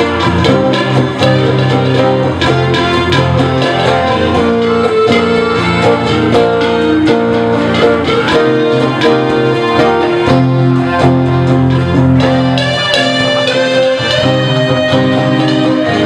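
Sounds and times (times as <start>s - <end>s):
drum kit beat: 0.0s - 16.0s
electric keyboard chords: 0.0s - 16.0s
guitar: 0.0s - 16.0s.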